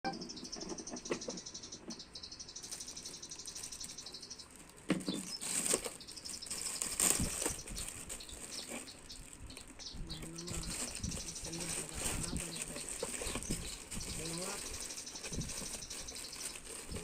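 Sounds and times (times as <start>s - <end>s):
plastic packaging crinkling: 2.6s - 17.0s.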